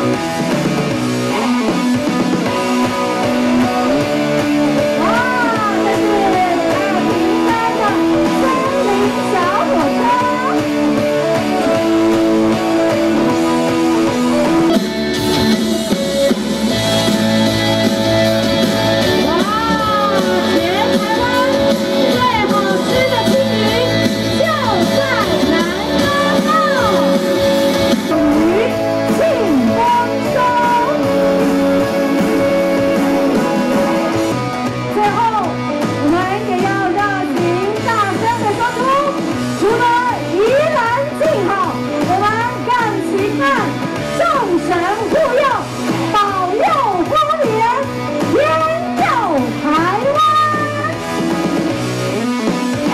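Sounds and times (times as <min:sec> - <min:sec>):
guitar background music: 0:00.0 - 0:52.9.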